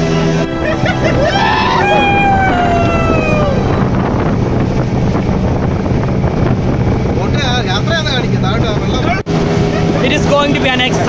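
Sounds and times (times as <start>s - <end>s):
motorboat engine running: 0.0s - 11.0s
wind buffeting microphone: 0.0s - 11.0s.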